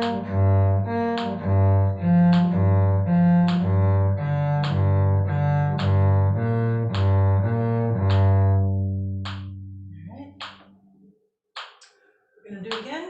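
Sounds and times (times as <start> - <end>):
cello playing arpeggios: 0.0 - 10.6.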